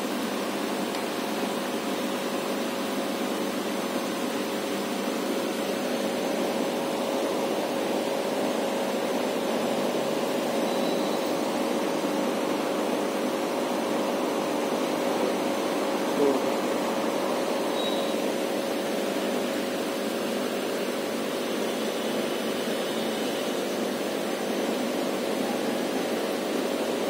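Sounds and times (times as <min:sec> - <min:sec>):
aquarium equipment hum and hiss: 0:00.0 - 0:27.0.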